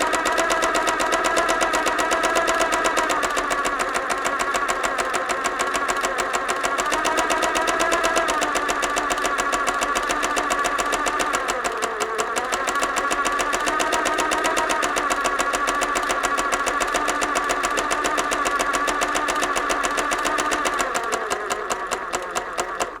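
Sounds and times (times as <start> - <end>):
sewing machine running: 0.0 - 23.0.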